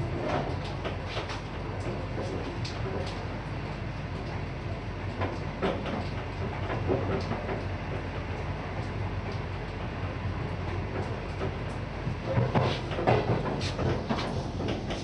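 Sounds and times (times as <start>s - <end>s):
train carriage rumbling on track: 0.0s - 15.0s.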